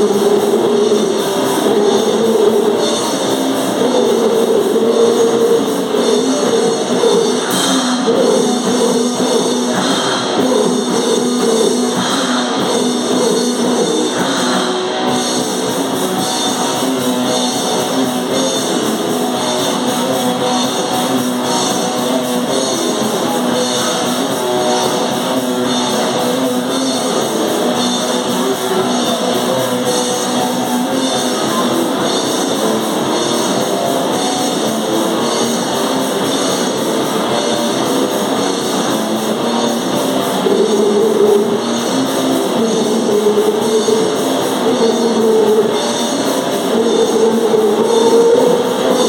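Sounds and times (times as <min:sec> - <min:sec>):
distorted electric guitar: 0:00.0 - 0:49.0
drum kit: 0:00.0 - 0:49.0
noise metal band playing: 0:00.0 - 0:49.0.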